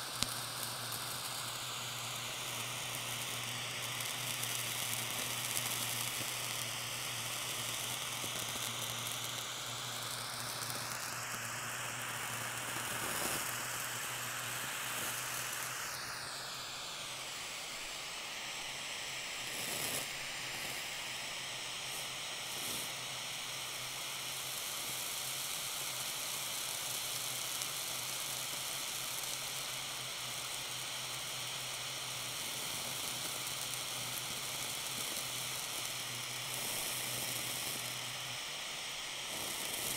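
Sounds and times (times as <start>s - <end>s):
blowtorch hissing: 0.0s - 39.9s
cheese sizzling with soft pops: 0.0s - 39.9s
whistling tone in hiss: 0.0s - 39.9s.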